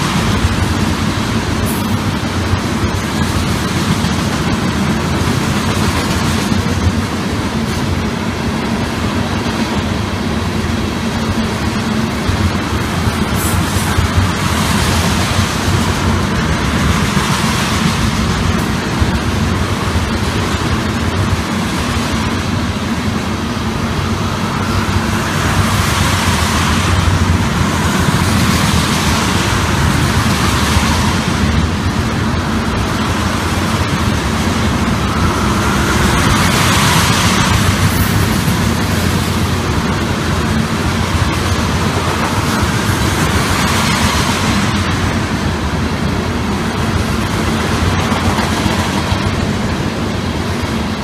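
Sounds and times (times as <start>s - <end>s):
freight train wheels rumbling on rails: 0.0s - 51.0s.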